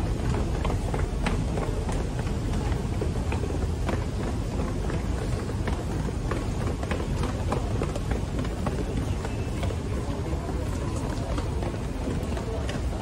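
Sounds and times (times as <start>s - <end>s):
footsteps going down stairs: 0.0s - 13.0s.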